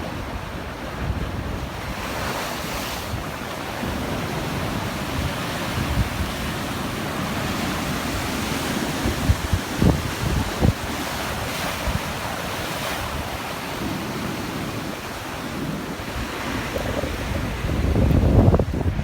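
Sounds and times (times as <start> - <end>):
sea surf washing in: 0.0 - 19.0
wind buffeting the microphone: 0.0 - 19.0.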